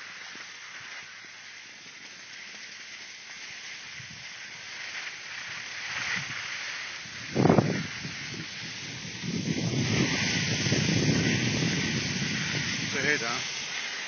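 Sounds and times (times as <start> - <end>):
snowboard sliding over snow: 0.0 - 14.0.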